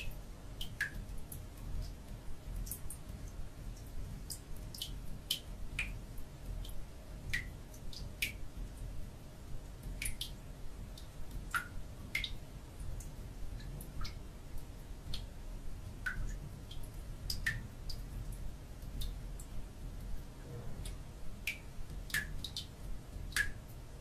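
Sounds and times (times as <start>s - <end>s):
low steady rumble: 0.0s - 24.0s
water dripping: 0.0s - 24.0s.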